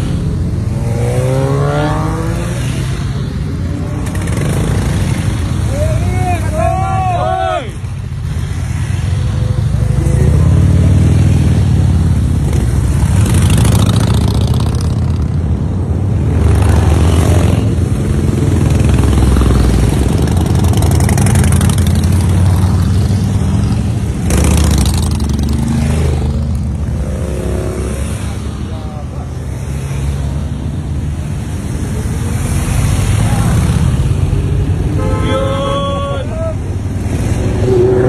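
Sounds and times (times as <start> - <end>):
motorcycles passing close by: 0.0 - 35.8, 36.6 - 38.0
motorcycle engines rumbling: 0.0 - 38.0.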